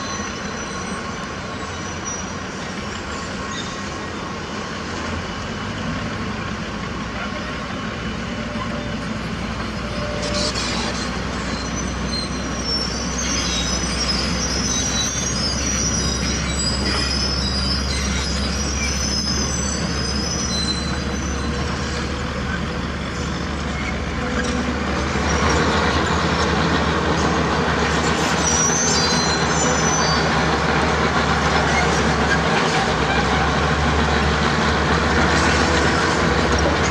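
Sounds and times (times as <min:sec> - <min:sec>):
high-pitched metallic squealing: 0:00.0 - 0:04.3, 0:07.8 - 0:33.9
heavy machinery diesel drone: 0:00.0 - 0:36.9.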